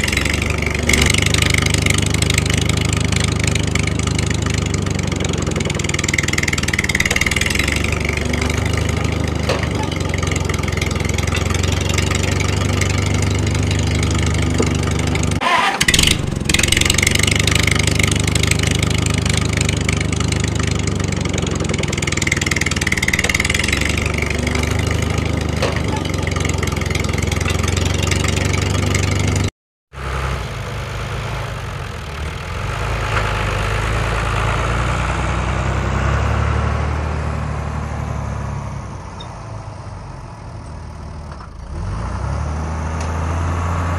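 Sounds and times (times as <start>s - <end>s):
tractor engine droning: 0.0s - 43.9s.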